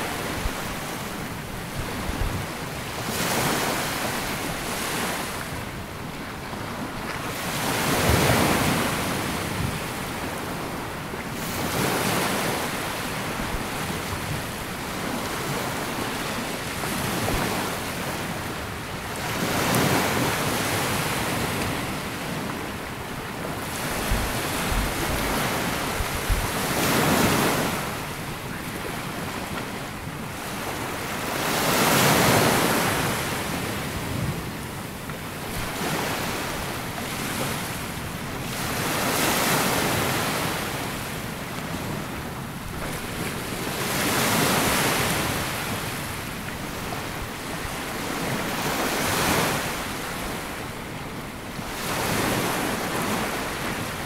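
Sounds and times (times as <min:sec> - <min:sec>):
sea waves breaking on a beach: 0:00.0 - 0:54.0.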